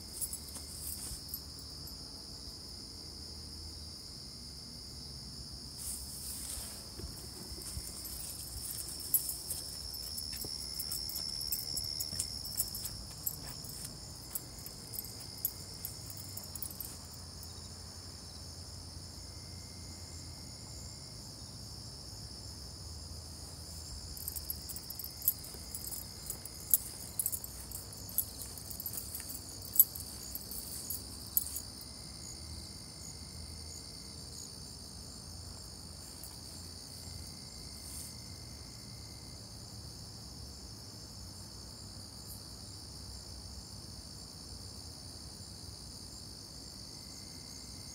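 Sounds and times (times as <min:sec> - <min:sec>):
night insects chirping: 0:00.0 - 0:47.9.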